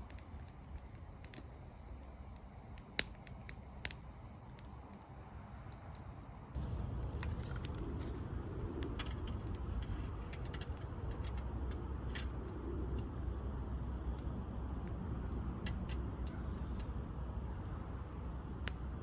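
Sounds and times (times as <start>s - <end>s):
campfire crackling and popping: 0.0s - 19.0s
low fire rumble: 0.0s - 19.0s.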